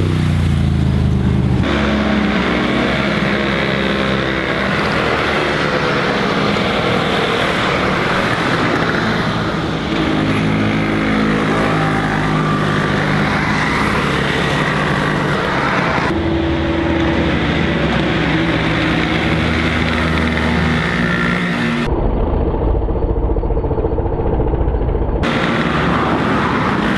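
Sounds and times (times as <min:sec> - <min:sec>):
motorcycle engines revving: 0:00.0 - 0:21.9, 0:25.2 - 0:26.9.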